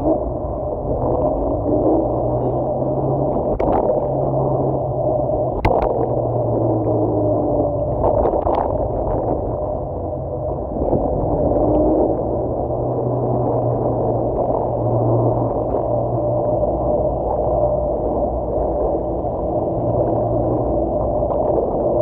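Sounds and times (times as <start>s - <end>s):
faint motor hum: 0.0s - 22.0s
tyres rumbling on wet road: 0.0s - 22.0s.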